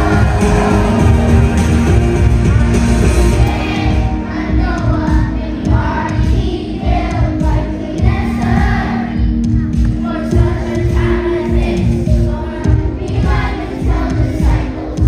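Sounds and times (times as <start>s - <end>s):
accompaniment music with bass beat: 0.0s - 15.0s
children's choir singing: 0.0s - 15.0s.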